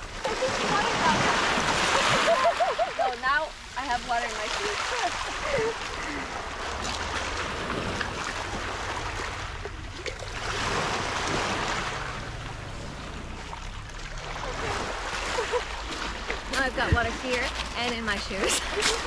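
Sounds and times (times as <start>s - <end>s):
waves washing over pebbles: 0.0s - 19.0s.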